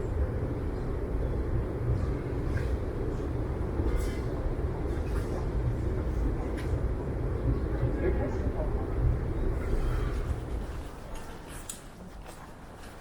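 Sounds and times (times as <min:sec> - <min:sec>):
rail vehicle rumble: 0:00.0 - 0:13.0.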